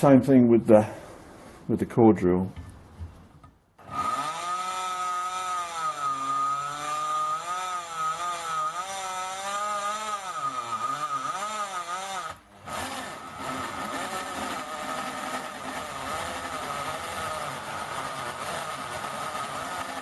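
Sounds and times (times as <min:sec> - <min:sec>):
electric drill motor whine: 0:03.8 - 0:20.0
hole saw cutting aluminium: 0:03.8 - 0:20.0.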